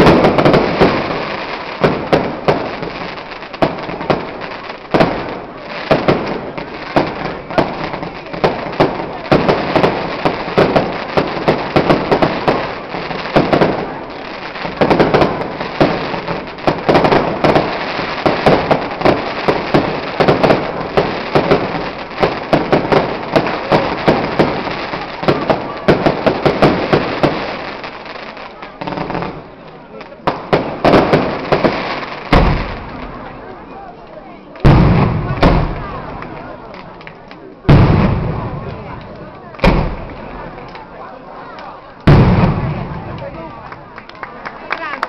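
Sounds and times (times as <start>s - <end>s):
fireworks bursting: 0.0s - 45.0s.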